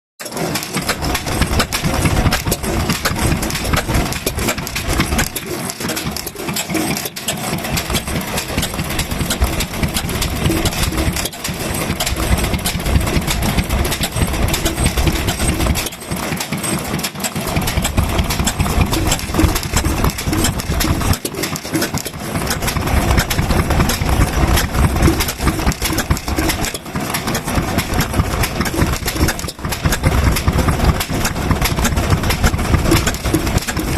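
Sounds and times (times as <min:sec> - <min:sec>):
stationary kerosene engines running: 0:00.2 - 0:33.9.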